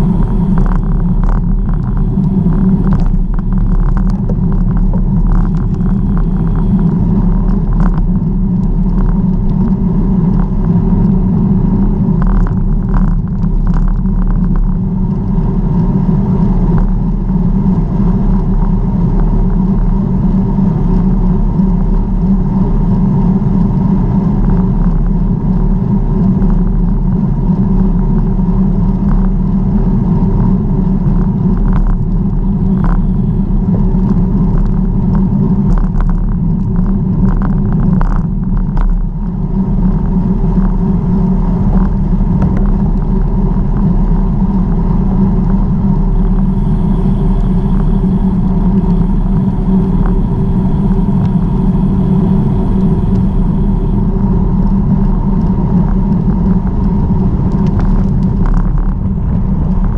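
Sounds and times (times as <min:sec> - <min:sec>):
wind and tyre noise: 0:00.0 - 0:59.9.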